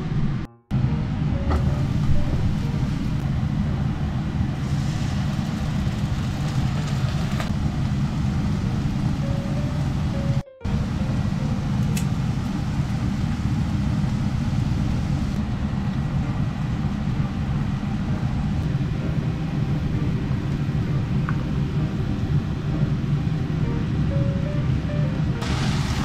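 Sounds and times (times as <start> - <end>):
steady low rumbling: 0.0 - 26.0.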